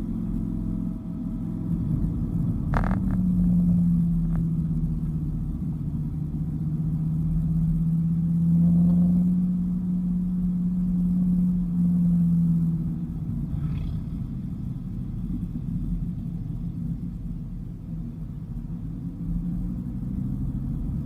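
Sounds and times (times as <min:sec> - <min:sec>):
car engine cruising: 0:00.0 - 0:21.0.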